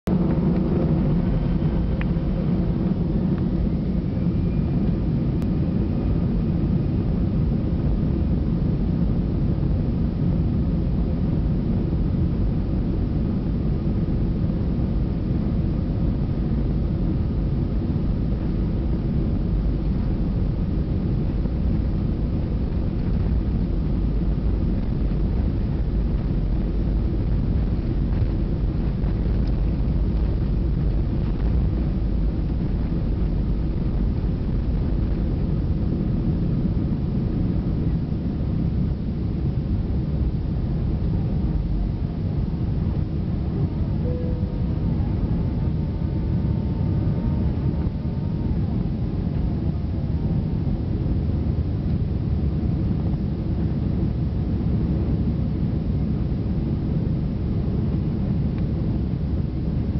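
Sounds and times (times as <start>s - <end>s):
faint engine whine: 0.0s - 59.9s
jet engine rumble: 0.0s - 59.9s.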